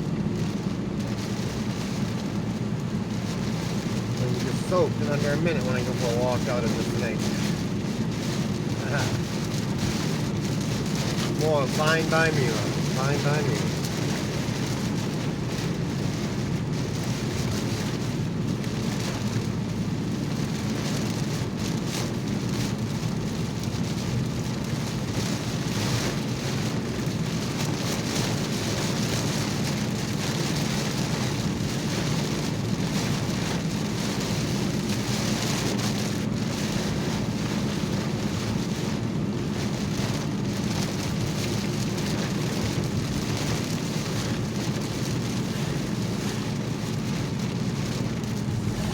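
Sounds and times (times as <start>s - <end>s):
car rumbling on wet road: 0.0s - 48.9s
rain on car roof: 0.0s - 48.9s.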